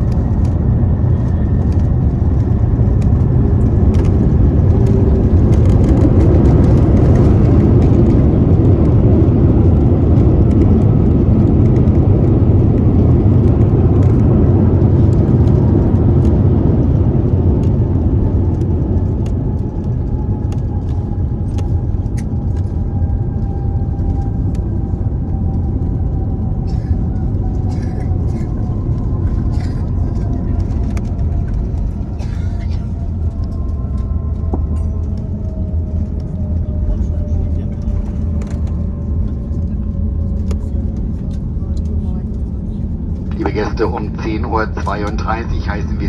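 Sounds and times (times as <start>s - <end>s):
jet engine rumble: 0.0s - 46.0s.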